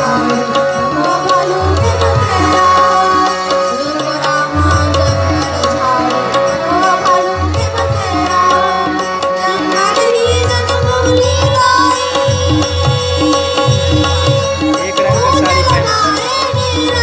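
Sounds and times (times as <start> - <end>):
harmonium melody: 0.0 - 17.0
tabla beat: 0.0 - 17.0.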